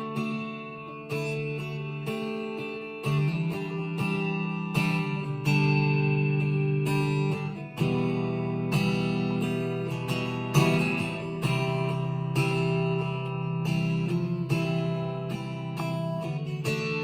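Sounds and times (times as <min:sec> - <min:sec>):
electric guitar plucked chords: 0:00.0 - 0:17.0.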